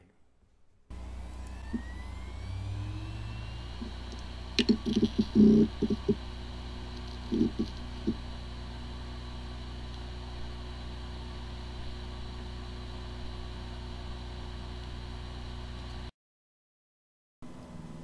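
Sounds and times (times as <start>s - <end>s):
hard drive whirring: 0.9s - 16.1s.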